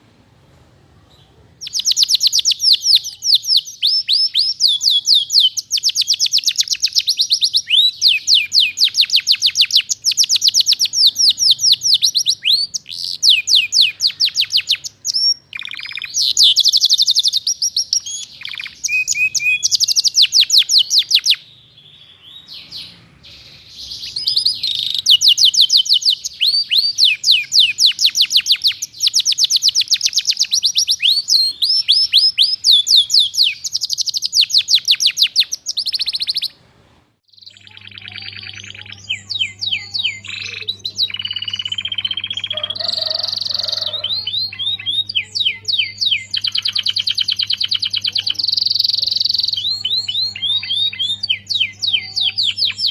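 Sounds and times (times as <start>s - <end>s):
canary singing rapid trills: 1.6s - 36.6s, 37.3s - 52.9s.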